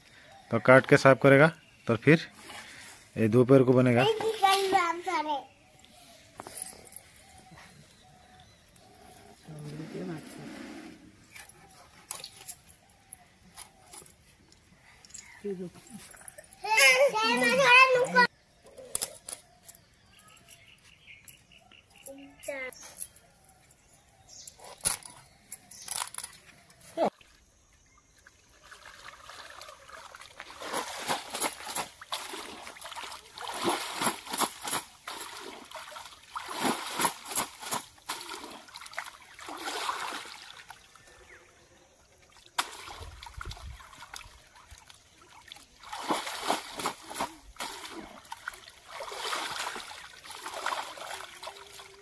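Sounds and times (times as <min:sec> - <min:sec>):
water splashing and trickling: 0:00.5 - 0:18.4, 0:25.0 - 0:52.0.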